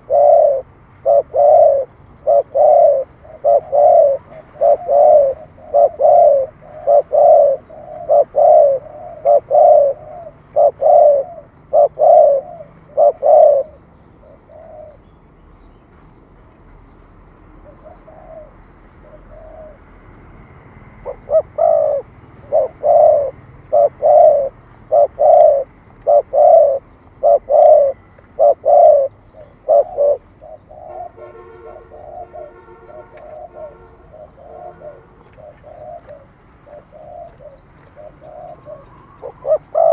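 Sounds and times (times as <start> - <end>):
dove cooing: 0.0 - 15.1, 17.6 - 19.8, 20.9 - 39.9.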